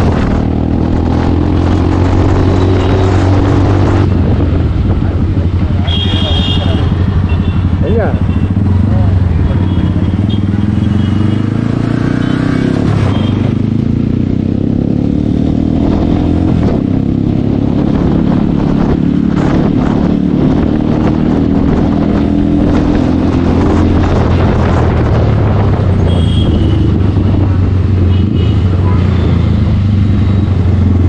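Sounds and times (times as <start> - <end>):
motorcycle engine running: 0.0 - 31.0
road or wind noise: 0.0 - 31.0.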